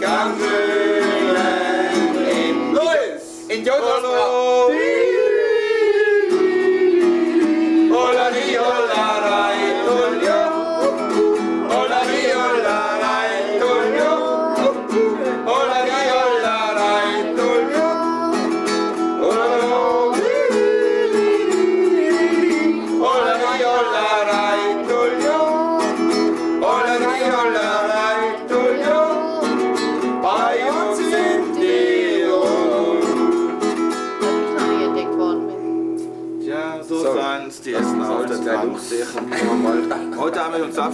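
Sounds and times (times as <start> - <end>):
men singing folk song: 0.0 - 34.0
acoustic guitar: 0.0 - 40.9.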